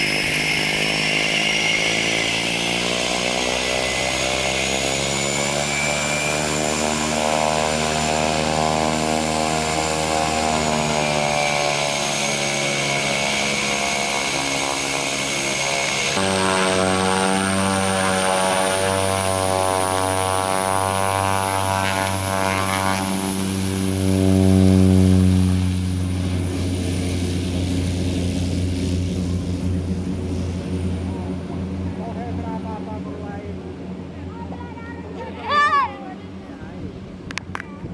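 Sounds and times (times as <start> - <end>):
propeller hum: 0.0 - 37.9
turboprop engine whine: 0.0 - 37.9.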